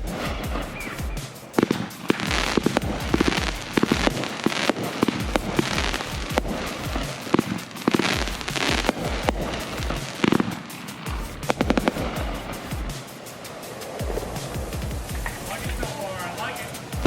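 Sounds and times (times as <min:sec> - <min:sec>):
fireworks bangs and crackling: 0:00.0 - 0:17.0
music with deep beat: 0:00.0 - 0:17.0.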